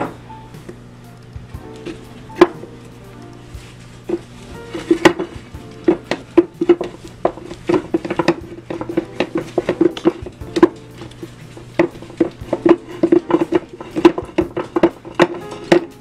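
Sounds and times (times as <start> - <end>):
background music: 0.0 - 16.0
wooden spoon stirring thick mixture: 1.6 - 16.0.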